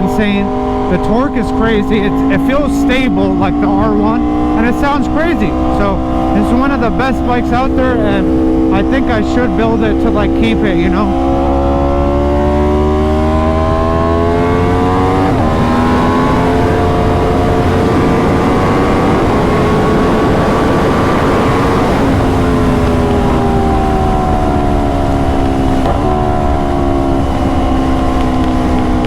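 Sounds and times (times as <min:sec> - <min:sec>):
gear change: 0:00.0 - 0:29.0
motorcycle engine revving: 0:00.0 - 0:29.0
wind rumble on microphone: 0:00.0 - 0:29.0.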